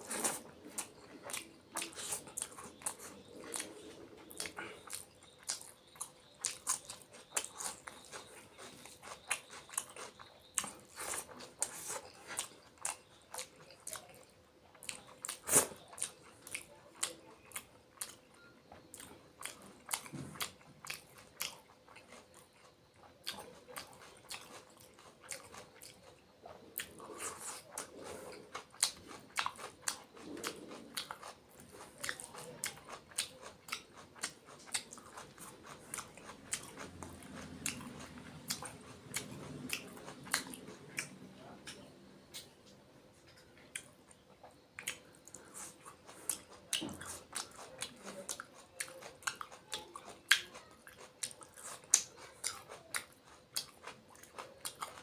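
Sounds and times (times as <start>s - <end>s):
wet chewing and lip-smacking: 0.0s - 42.5s, 43.3s - 55.0s.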